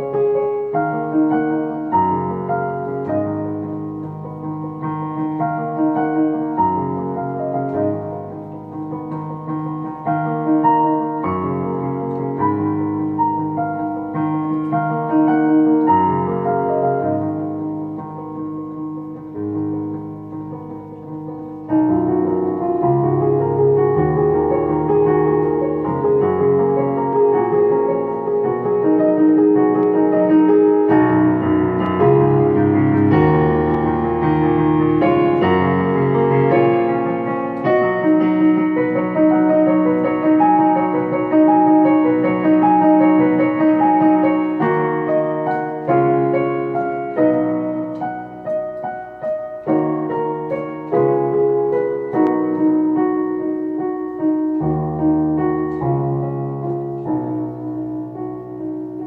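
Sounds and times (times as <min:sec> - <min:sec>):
solo piano piece: 0:00.0 - 0:59.0.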